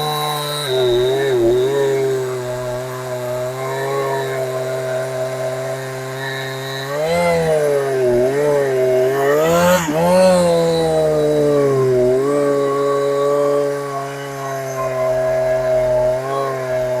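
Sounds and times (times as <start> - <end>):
chainsaw running at high speed: 0.0 - 17.0.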